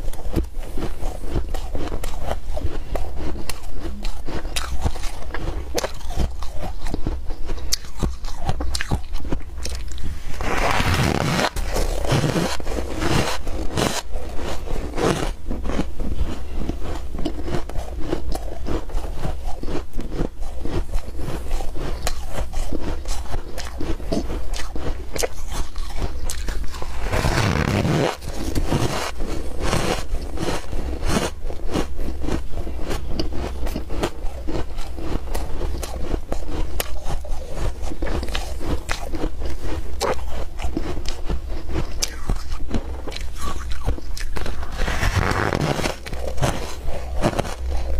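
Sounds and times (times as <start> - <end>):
ice being chewed: 0.0 - 47.9.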